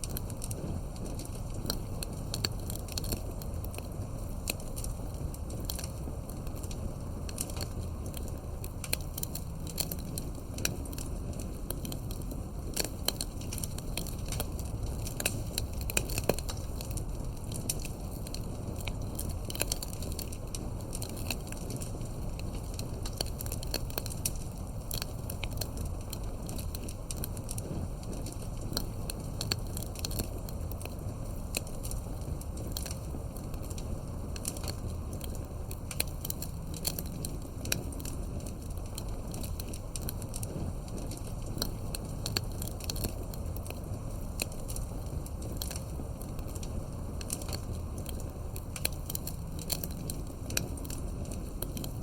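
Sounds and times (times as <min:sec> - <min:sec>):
campfire wood crackling and popping: 0:00.0 - 0:52.0
low rumble of flames: 0:00.0 - 0:52.0.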